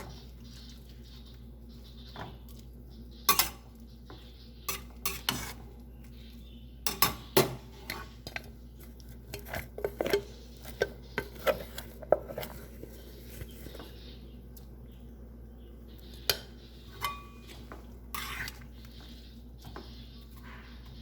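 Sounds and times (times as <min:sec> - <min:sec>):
spoon stirring in a pot: 0:00.0 - 0:14.8, 0:15.9 - 0:21.0.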